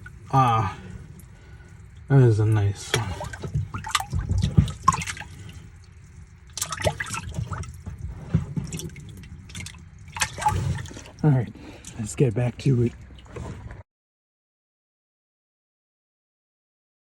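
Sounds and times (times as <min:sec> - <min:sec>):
water splashing and dripping: 0:00.0 - 0:13.8.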